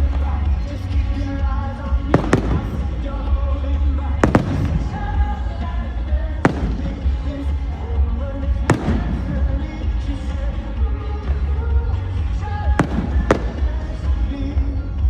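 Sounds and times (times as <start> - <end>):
fireworks bangs: 0.0 - 10.6, 12.6 - 14.7
crowd chatter: 0.0 - 15.0
music: 0.0 - 15.0.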